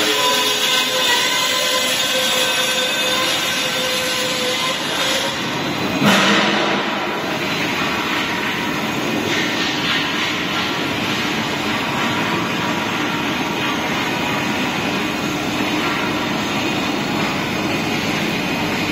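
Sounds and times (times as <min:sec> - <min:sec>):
loud machinery noise: 0:00.0 - 0:18.9.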